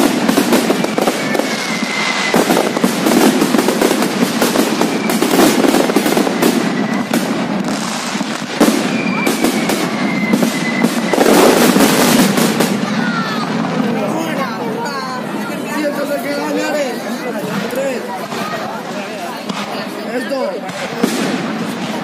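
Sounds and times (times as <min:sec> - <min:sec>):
whistling rockets: 0:00.0 - 0:14.6, 0:17.4 - 0:22.0
fireworks crackling bangs: 0:00.0 - 0:22.0.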